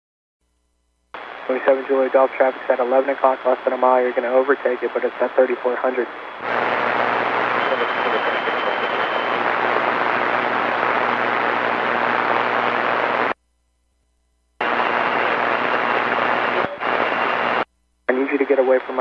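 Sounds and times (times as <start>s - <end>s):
faint high whine: 0.4s - 19.0s
radio static hiss: 1.2s - 13.4s, 14.6s - 19.0s.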